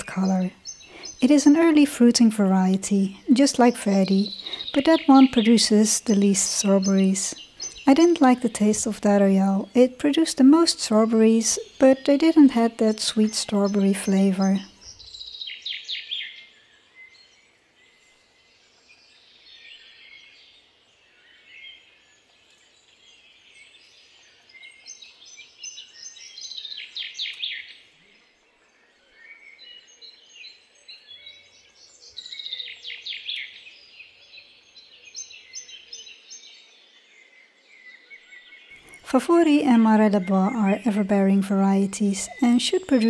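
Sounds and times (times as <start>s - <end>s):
birds singing: 0.0s - 43.0s
faint outdoor background noise: 0.0s - 43.0s.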